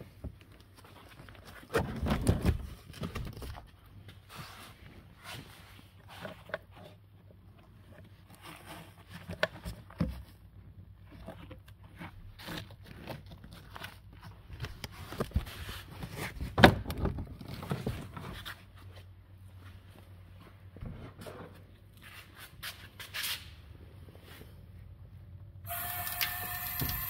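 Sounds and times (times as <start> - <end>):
handling knocks and scrapes: 0.0 - 25.0.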